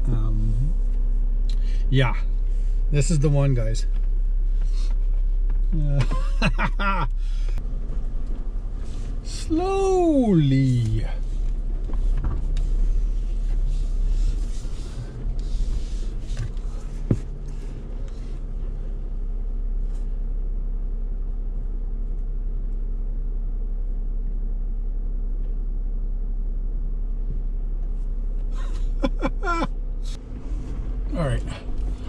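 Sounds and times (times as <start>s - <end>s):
car engine rumbling: 0.0s - 32.0s.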